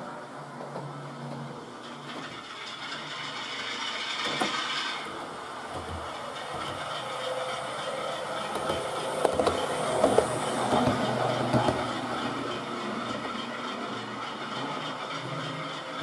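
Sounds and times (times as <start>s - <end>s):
model train motor hum: 1.6s - 16.0s.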